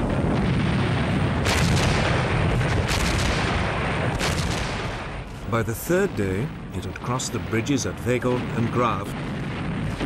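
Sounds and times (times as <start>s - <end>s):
gunfire and artillery blasts: 0.0s - 10.0s.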